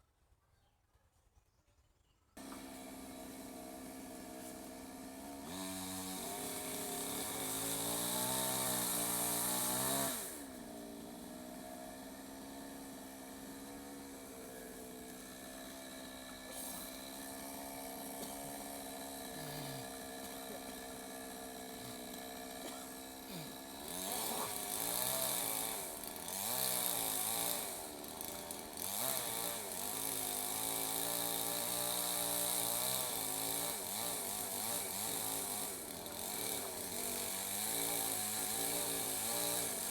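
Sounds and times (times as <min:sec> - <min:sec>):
chainsaw engine revving and idling: 0:02.4 - 0:39.9.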